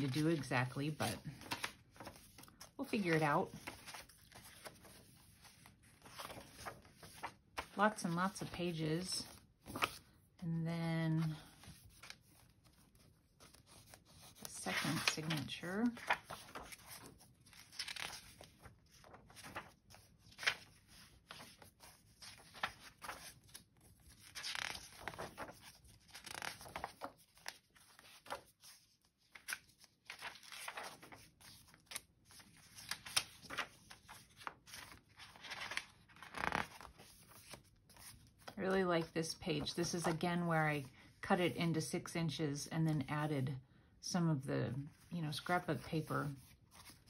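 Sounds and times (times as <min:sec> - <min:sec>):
paper pages turning: 0:00.0 - 0:10.2, 0:11.1 - 0:40.5, 0:44.9 - 0:47.0.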